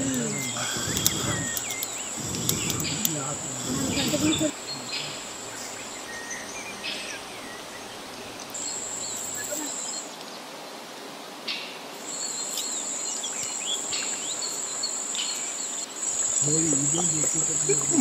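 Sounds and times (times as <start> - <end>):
insect buzzing: 0.0 - 10.1, 12.0 - 18.0
birds chirping: 0.0 - 10.5, 11.5 - 18.0.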